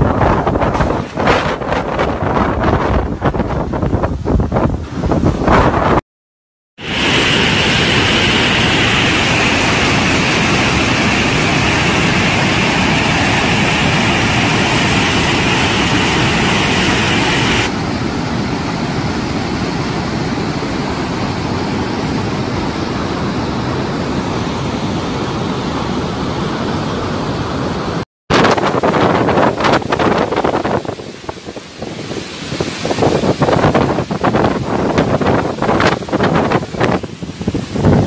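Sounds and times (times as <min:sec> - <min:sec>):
floodwater rushing: 0:00.0 - 0:06.0, 0:06.8 - 0:38.0.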